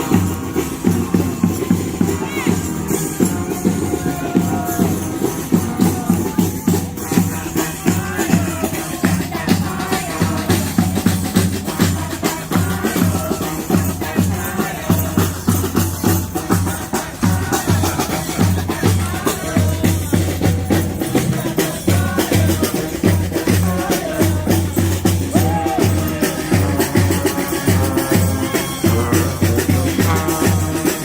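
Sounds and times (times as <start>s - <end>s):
drums beating: 0.0s - 31.0s.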